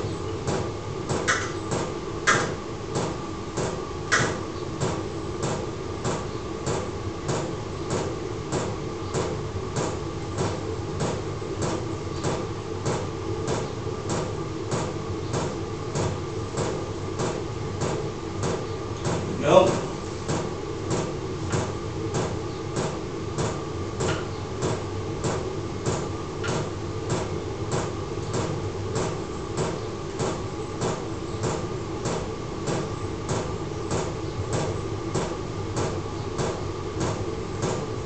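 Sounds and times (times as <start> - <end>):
heater fan hum: 0.0 - 38.0.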